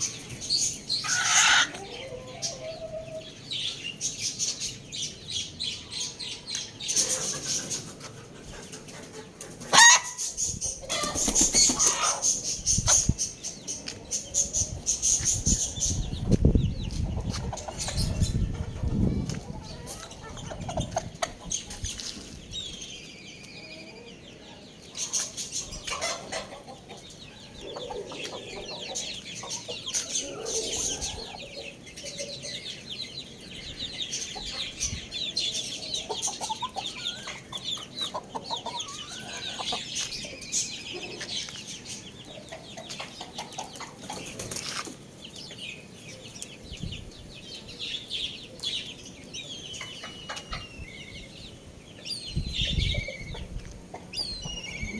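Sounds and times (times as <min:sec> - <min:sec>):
young chickens clucking: 0:00.0 - 0:54.9.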